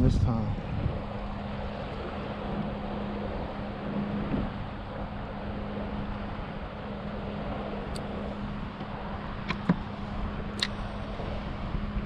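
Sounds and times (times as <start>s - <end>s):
motorboat engine hum: 0.0s - 12.0s
water noise: 0.0s - 12.0s
wind: 0.0s - 12.0s.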